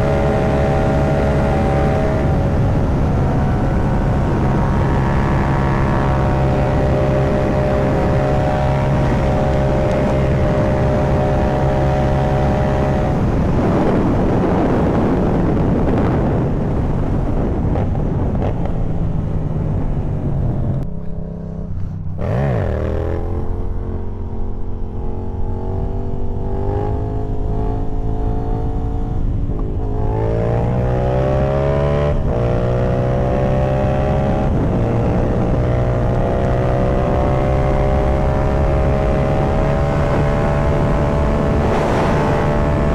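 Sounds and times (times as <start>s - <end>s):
motorcycle engine while riding: 0.0s - 42.9s.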